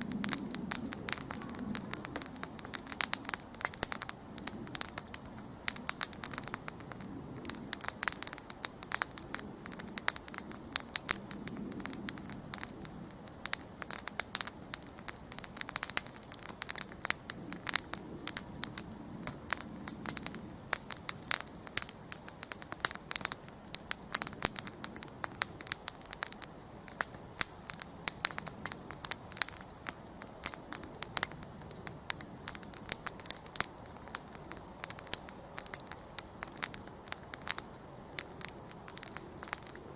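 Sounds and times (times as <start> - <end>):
campfire crackling and popping: 0.0 - 39.9
soft flames: 0.0 - 39.9.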